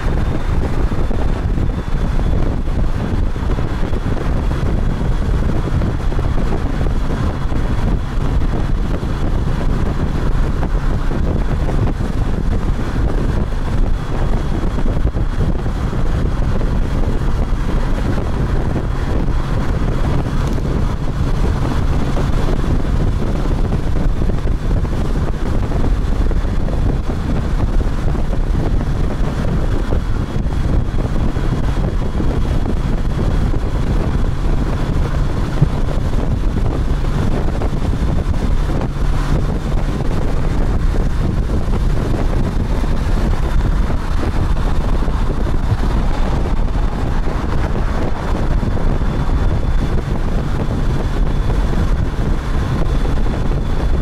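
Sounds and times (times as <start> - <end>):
motorcycle engine and road drone: 0.0 - 54.0
wind rush on microphone: 0.0 - 54.0.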